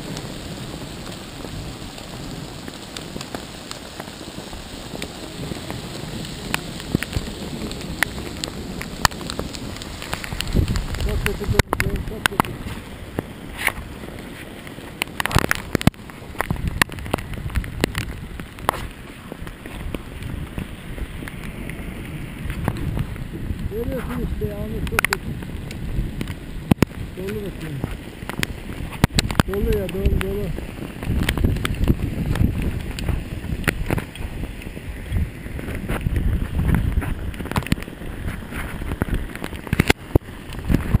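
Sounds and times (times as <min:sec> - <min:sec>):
hailstones striking: 0:00.0 - 0:41.0
wind rumble on microphone: 0:00.0 - 0:41.0.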